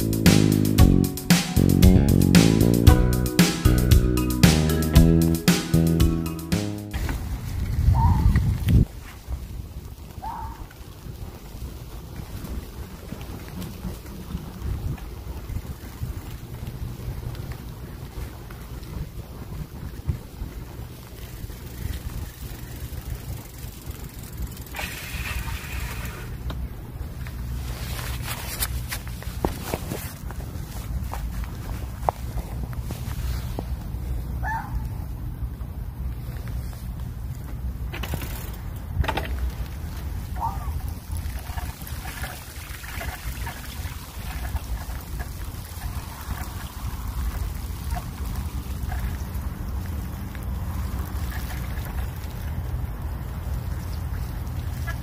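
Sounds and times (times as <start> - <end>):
bike tyres rolling on wet path: 0.0 - 55.0
wind buffeting microphone: 6.9 - 38.0, 38.6 - 55.0.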